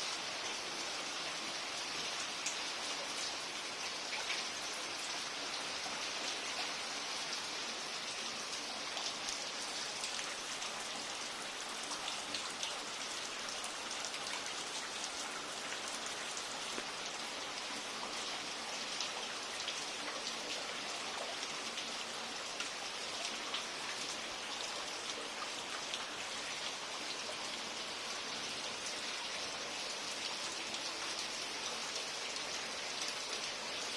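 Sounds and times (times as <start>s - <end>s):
raindrops hitting close by: 0.0s - 33.9s
steady rain hiss: 0.0s - 33.9s.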